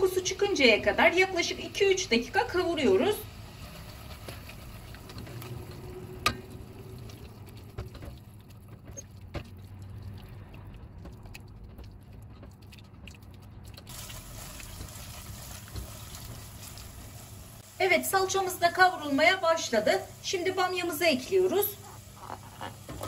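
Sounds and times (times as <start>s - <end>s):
sizzle and crackle in a pot: 0.0s - 11.1s, 13.8s - 23.0s.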